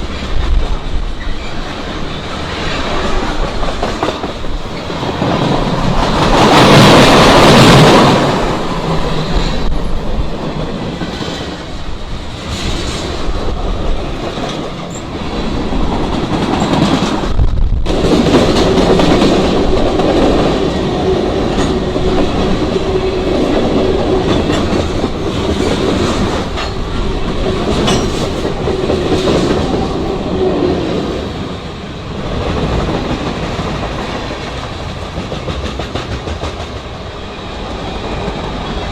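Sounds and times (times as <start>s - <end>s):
train wheels clicking over rail joints: 0.0s - 30.3s, 32.2s - 38.9s.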